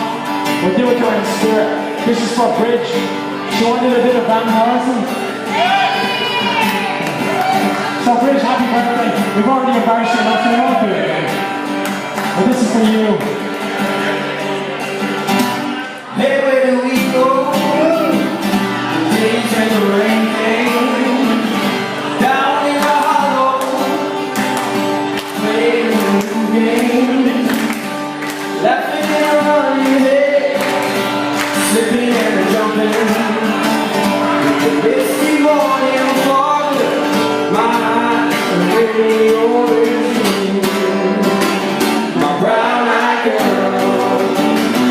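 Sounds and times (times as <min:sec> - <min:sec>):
man singing pop song: 0:00.0 - 0:06.6, 0:08.0 - 0:11.4, 0:16.1 - 0:24.3, 0:25.2 - 0:44.9
strummed guitar: 0:00.0 - 0:44.9.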